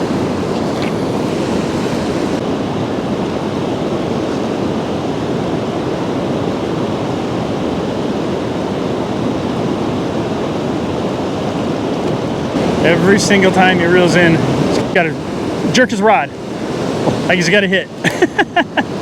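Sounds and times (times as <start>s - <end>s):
fast-flowing river rushing: 0.0s - 19.0s.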